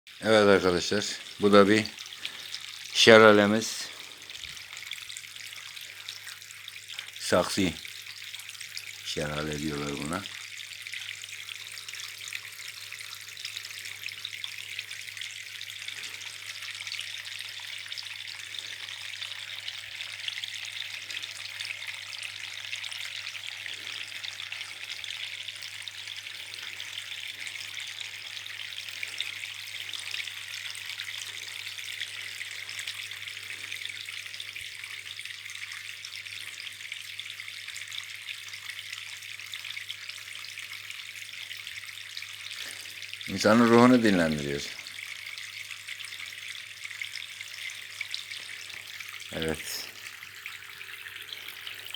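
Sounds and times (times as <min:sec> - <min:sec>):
water trickling and splashing: 0:00.1 - 0:51.9.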